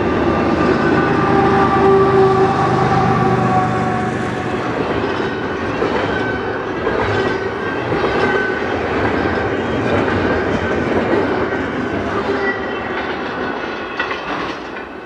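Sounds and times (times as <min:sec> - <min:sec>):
freight train rumble: 0:00.0 - 0:15.0
wheels clacking over rails: 0:00.0 - 0:15.0.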